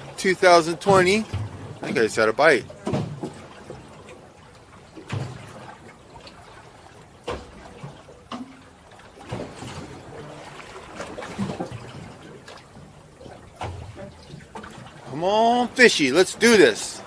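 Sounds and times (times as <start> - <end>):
water slapping on hull: 0.0 - 17.0
waves lapping against boat hull: 0.0 - 17.0.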